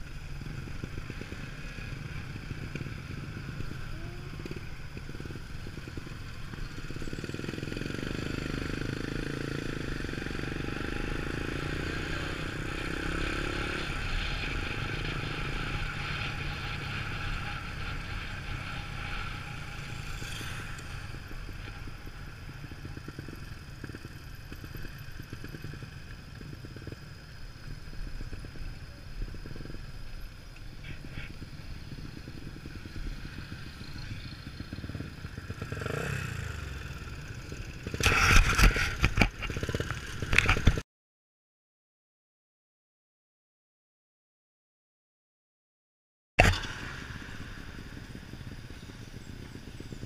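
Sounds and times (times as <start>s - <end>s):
motorcycle engine running: 0.0s - 40.8s, 46.4s - 50.0s
wind and road noise: 0.0s - 40.8s, 46.4s - 50.0s.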